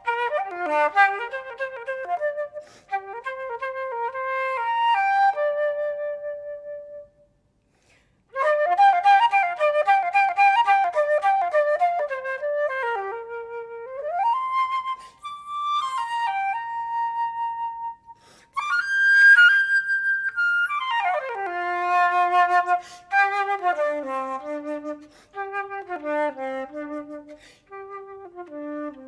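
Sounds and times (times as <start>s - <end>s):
solo flute playing: 0.0s - 7.4s, 8.3s - 29.0s.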